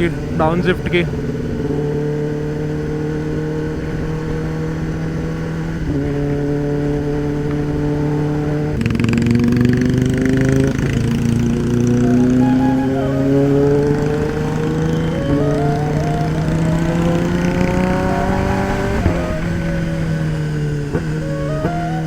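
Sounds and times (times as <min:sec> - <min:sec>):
motorcycle engine running: 0:01.1 - 0:22.0.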